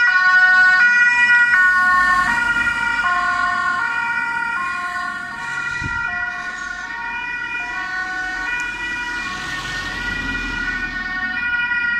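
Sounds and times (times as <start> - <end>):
two-tone fire siren: 0.0 - 11.9.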